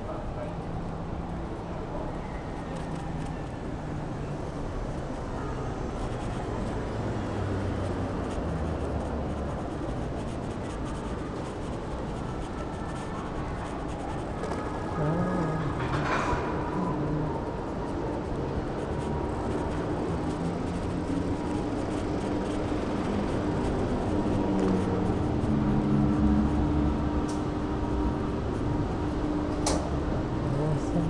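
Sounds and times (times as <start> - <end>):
passing vehicles rumbling: 0.0 - 31.0.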